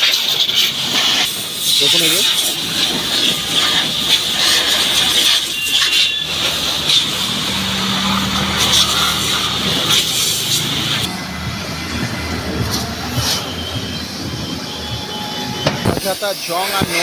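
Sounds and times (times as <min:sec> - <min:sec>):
pressure washer jet hissing: 0:00.0 - 0:17.0.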